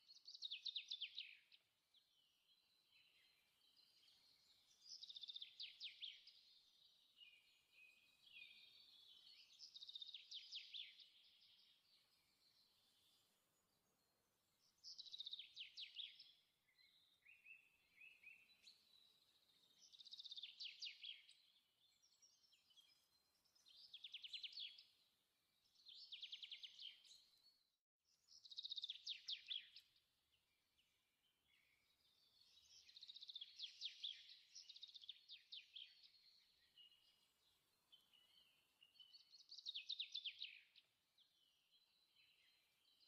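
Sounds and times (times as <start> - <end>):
faint trilled bird song: 0.0 - 43.0.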